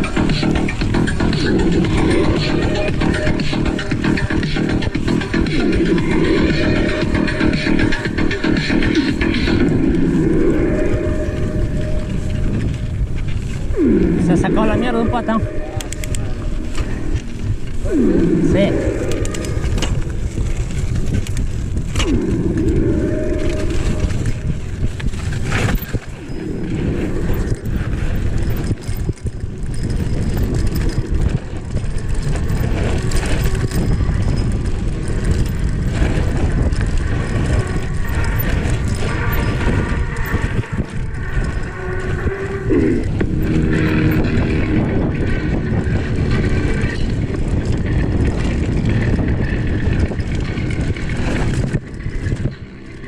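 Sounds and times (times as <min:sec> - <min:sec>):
bike knocking and rattling: 0:00.0 - 0:53.0
bike tyres rumbling on dirt: 0:00.0 - 0:53.0
wind noise: 0:00.0 - 0:53.0.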